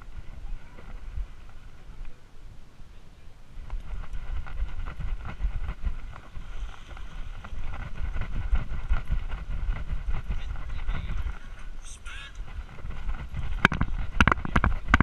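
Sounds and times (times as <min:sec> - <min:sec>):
wind buffeting on camera: 0:00.0 - 0:02.7, 0:03.5 - 0:15.0.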